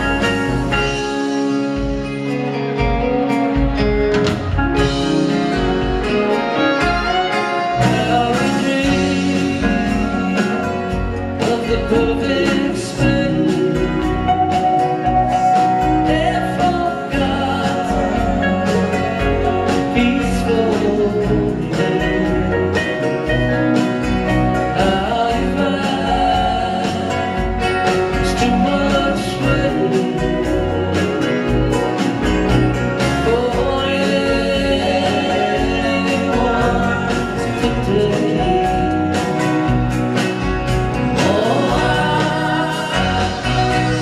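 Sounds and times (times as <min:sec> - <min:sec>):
steady drum beat: 0:00.0 - 0:44.0
string band playing: 0:00.0 - 0:44.0.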